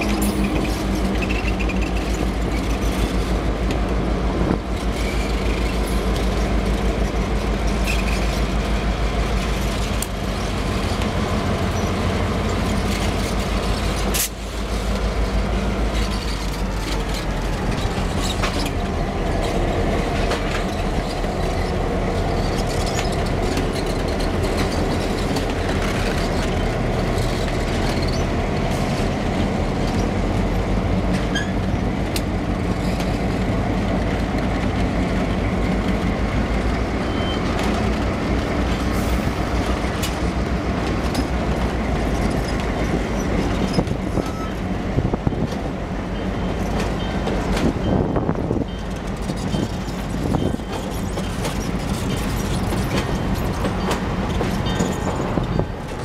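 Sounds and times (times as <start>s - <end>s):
diesel locomotive engine rumble: 0.0s - 56.0s
wheel and rail clicks: 0.0s - 56.0s.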